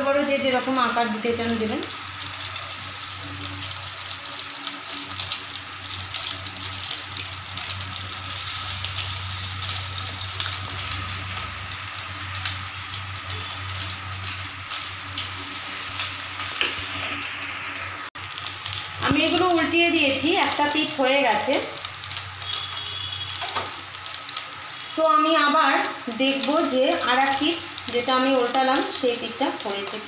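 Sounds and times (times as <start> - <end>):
fritters sizzling in hot oil: 0.0 - 30.0.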